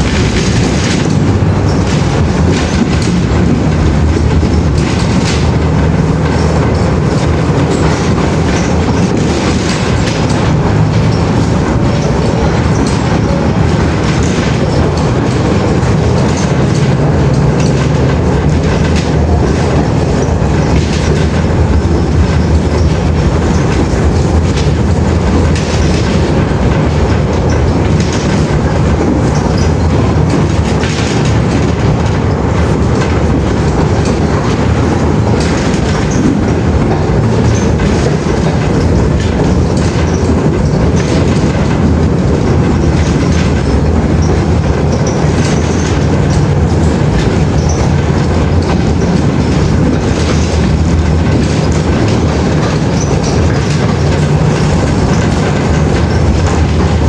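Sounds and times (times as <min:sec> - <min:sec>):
train rumbling on track: 0:00.0 - 0:57.0
wheels clicking over rail joints: 0:00.0 - 0:57.0.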